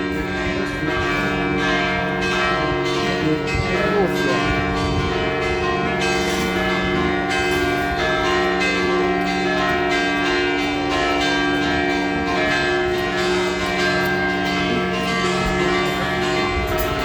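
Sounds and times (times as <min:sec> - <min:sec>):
bell-like chords ringing: 0:00.0 - 0:17.0.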